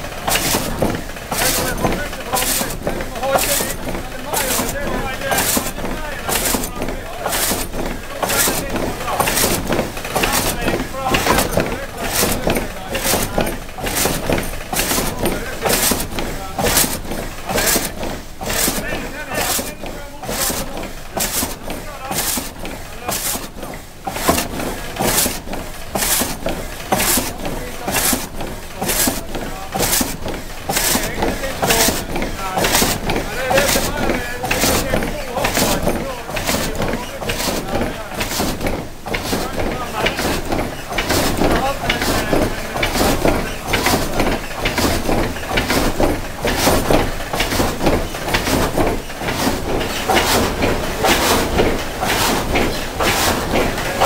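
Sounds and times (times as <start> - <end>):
saw blade rasping through log: 0.0 - 54.0.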